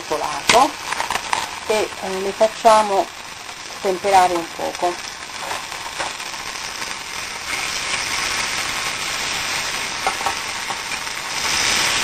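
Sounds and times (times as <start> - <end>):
food sizzling in frying pan: 0.0 - 12.0
oil crackles: 0.0 - 12.0.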